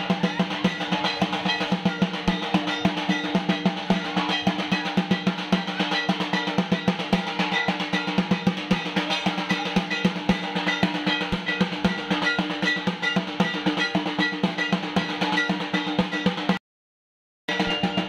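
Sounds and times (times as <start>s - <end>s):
high ringing metal note: 0.0s - 16.5s, 17.5s - 18.0s
fast drumming: 0.0s - 16.6s, 17.5s - 18.0s.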